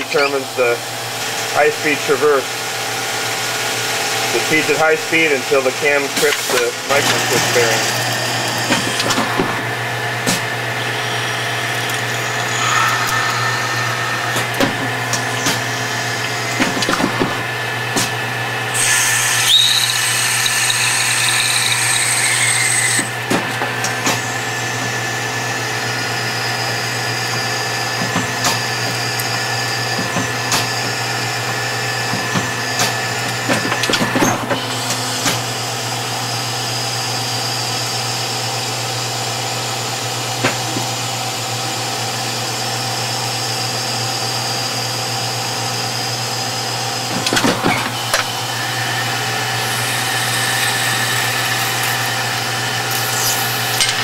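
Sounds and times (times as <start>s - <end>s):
lathe humming and whining: 0.0s - 54.0s.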